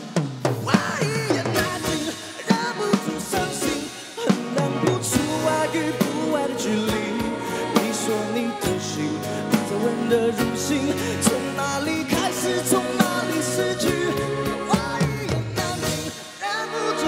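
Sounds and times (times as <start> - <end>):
live band playing: 0.0 - 17.0
man singing pop ballad: 0.6 - 17.0.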